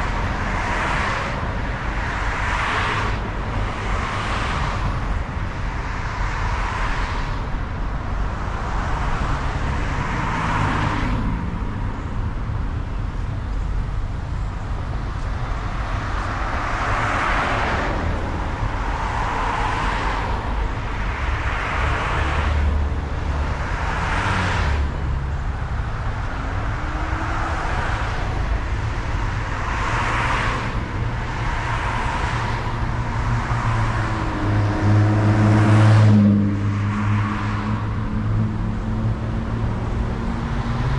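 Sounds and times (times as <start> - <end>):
road and traffic noise: 0.0 - 40.9.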